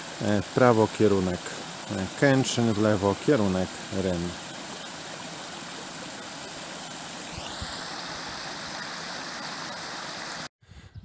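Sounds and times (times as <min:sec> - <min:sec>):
stream rushing and splashing: 0:00.0 - 0:10.5.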